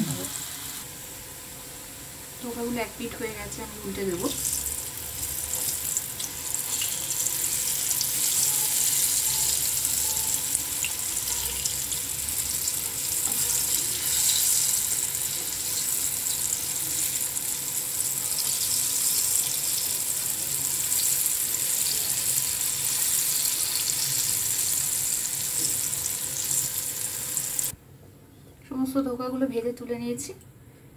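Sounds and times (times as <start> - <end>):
food sizzling in hot oil: 0.0 - 27.7.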